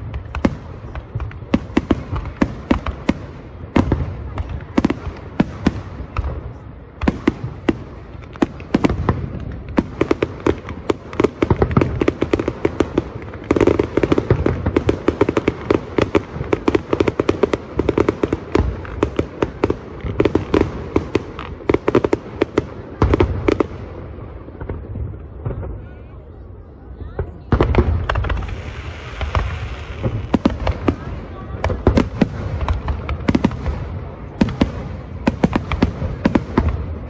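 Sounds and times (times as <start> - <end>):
fireworks bangs and pops: 0.0 - 26.0, 27.1 - 37.0.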